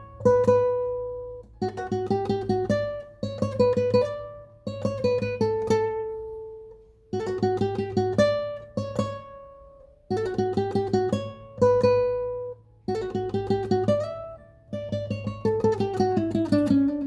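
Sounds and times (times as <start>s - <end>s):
acoustic guitar melody: 0.0s - 17.0s.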